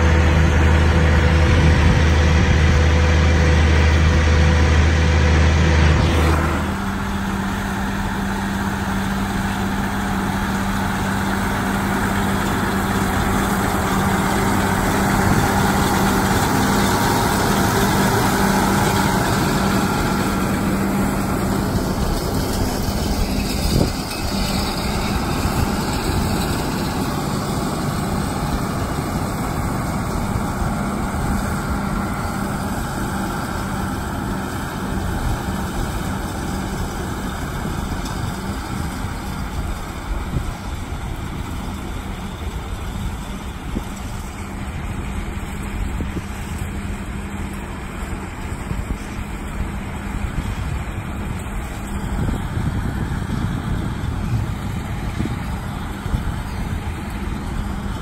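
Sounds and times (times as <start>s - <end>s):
diesel tractor running: 0.0s - 58.0s.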